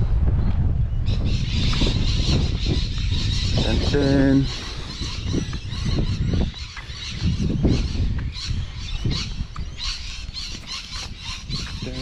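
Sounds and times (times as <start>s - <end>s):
dull low thumps: 0.0s - 12.0s
birds calling: 0.6s - 12.0s.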